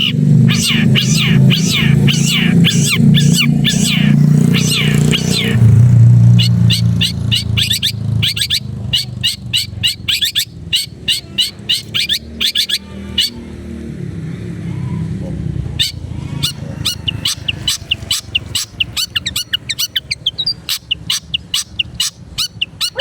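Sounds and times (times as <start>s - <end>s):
bird calling: 0.0s - 23.0s.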